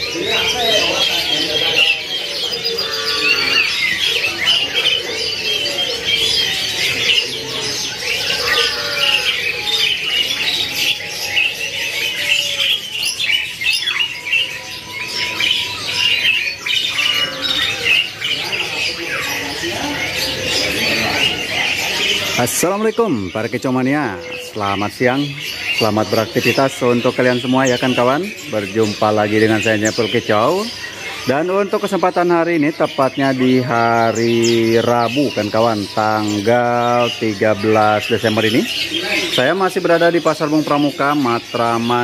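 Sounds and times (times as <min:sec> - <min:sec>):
caged birds chirping and squawking: 0:00.0 - 0:42.0.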